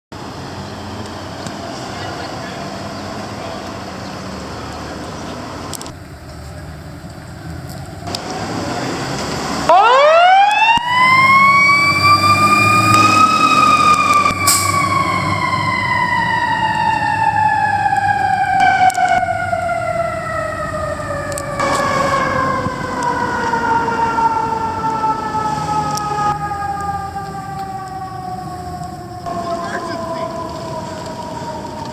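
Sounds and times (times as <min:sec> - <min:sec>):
fire engine siren wailing: 0:00.2 - 0:06.4, 0:07.0 - 0:31.9
low engine rumble: 0:00.2 - 0:31.9.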